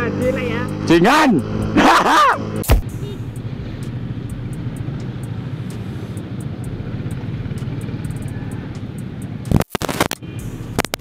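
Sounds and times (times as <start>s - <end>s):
motorcycle engine idling: 0.0s - 9.5s, 10.2s - 11.0s.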